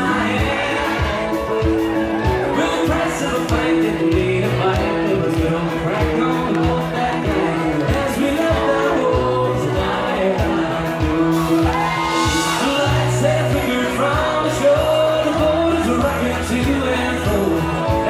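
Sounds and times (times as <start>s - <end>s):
bass: 0.0s - 18.0s
guitar: 0.0s - 18.0s
man singing: 0.0s - 18.0s
steady drum beat: 0.0s - 18.0s.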